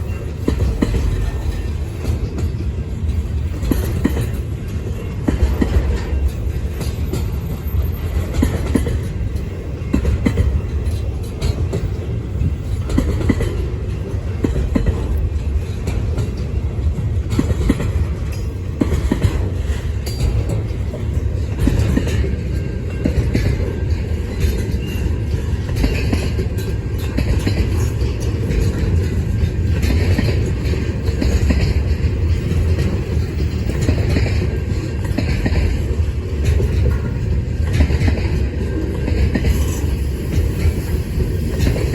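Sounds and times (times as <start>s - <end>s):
freight train rumble: 0.0s - 41.9s
wheels clicking on track: 0.0s - 41.9s.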